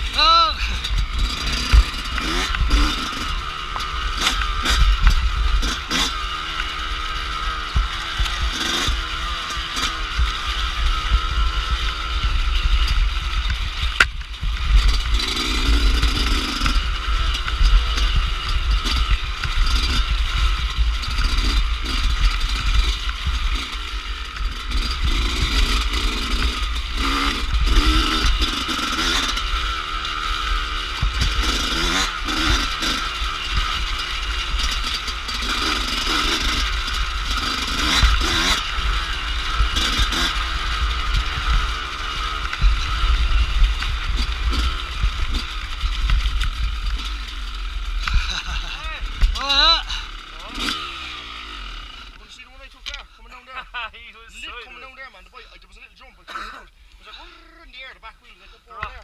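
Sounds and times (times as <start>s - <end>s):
dirt bike engine revving: 0.0s - 59.0s
bike scraping and clattering: 0.8s - 49.6s.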